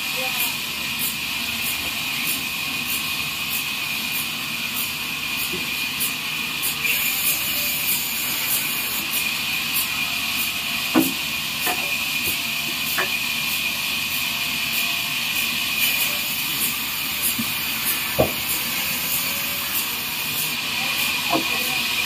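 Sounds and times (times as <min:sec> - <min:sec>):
band saw blade hiss and whine: 0:00.0 - 0:22.0.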